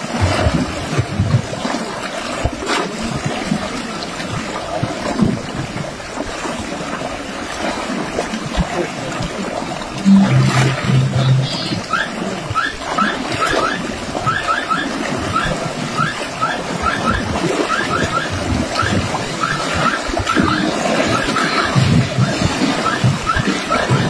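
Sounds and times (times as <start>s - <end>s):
water lapping on rocks: 0.0s - 24.0s.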